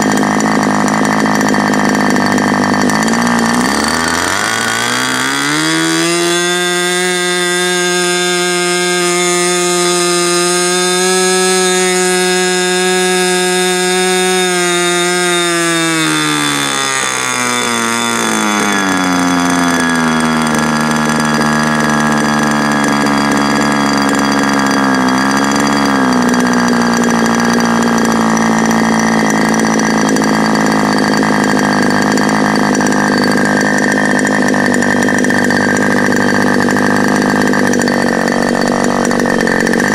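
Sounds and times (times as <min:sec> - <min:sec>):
model glow engine running: 0:00.0 - 0:39.9.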